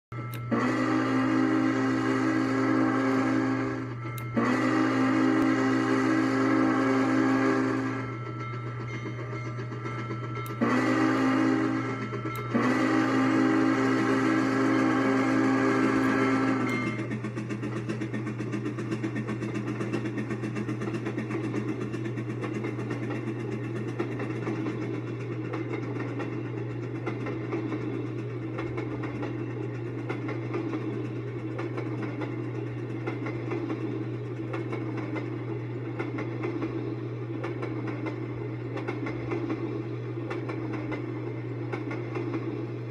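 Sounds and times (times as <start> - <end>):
low hum: 0.1 - 42.9
model train wheels rumbling: 0.2 - 42.9.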